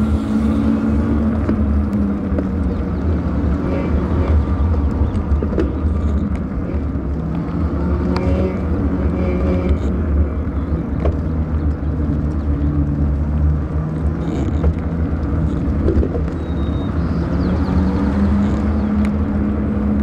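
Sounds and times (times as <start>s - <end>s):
wind and road rumble: 0.0s - 20.0s.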